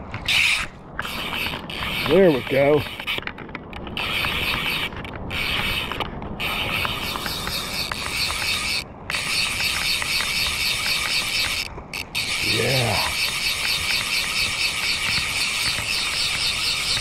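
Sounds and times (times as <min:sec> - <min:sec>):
fly reel ratchet clicking: 0:00.3 - 0:17.0.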